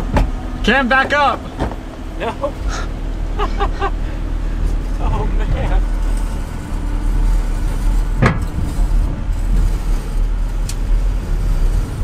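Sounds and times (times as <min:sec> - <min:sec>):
truck crawling with low rumble: 0:00.0 - 0:12.0
truck scraping on rock: 0:00.6 - 0:12.0.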